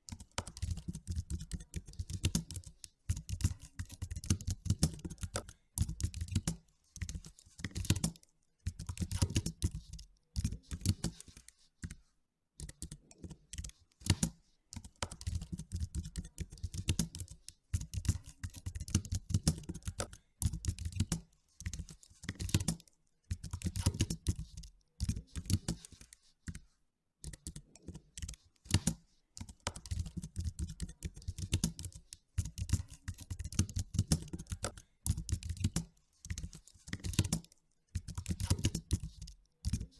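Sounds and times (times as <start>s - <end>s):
computer keyboard typing: 0.0s - 12.0s, 12.6s - 39.9s.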